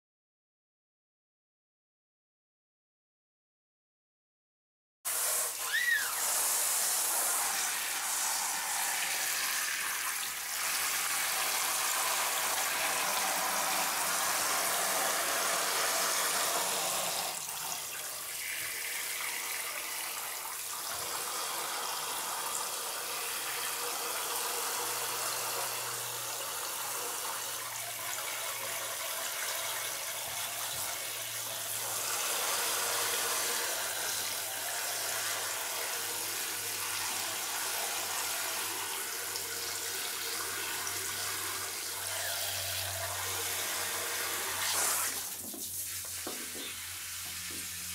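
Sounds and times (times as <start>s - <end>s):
shower spray splashing into water: 5.1s - 47.9s.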